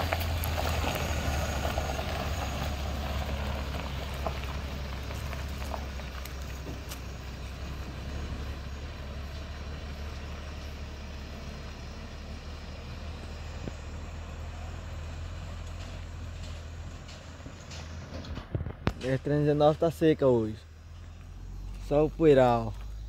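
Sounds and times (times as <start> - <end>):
road noise: 0.0 - 23.0
vehicles driving past: 0.0 - 23.0.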